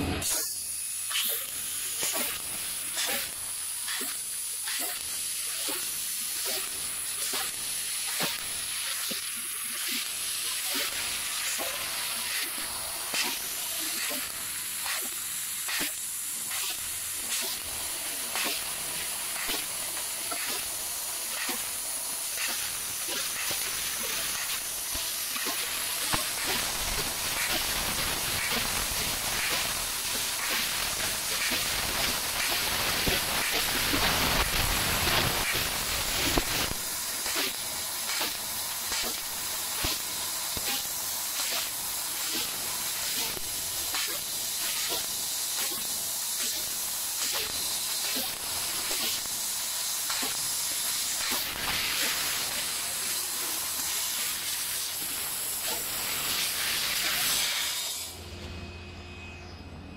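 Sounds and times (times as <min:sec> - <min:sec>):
gas hissing from cutting head: 0:00.0 - 0:58.2
laser crackling ticks: 0:01.1 - 0:52.8.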